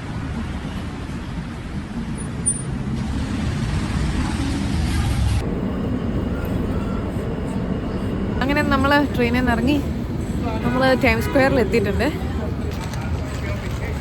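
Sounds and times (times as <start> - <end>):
city vehicle rumble: 0.0 - 14.0.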